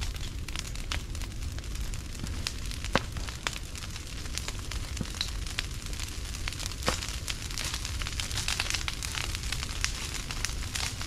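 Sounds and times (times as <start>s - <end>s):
branches burning and crackling: 0.0s - 11.0s.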